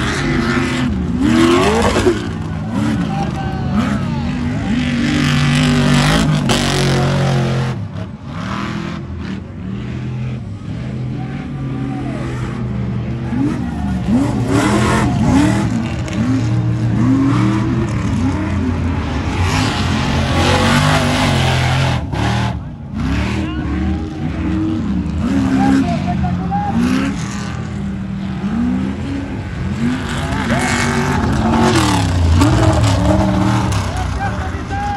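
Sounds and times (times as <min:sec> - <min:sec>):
race truck engines revving: 0:00.0 - 0:34.9.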